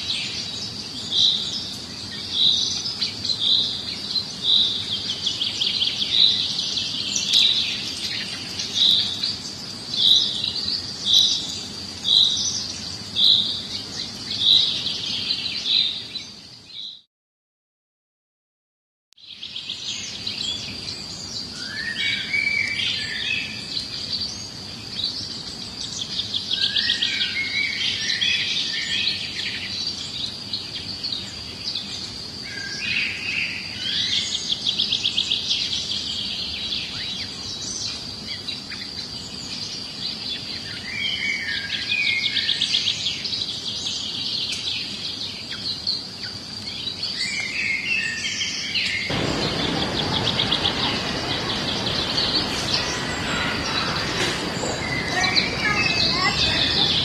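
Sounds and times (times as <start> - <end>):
small birds singing: 0.0 - 17.1, 19.2 - 57.0.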